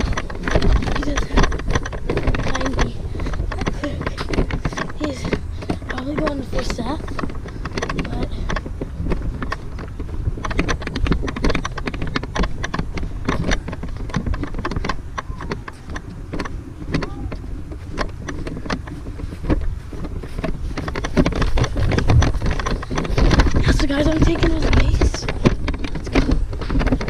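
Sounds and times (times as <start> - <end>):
wind on microphone: 0.0 - 27.0.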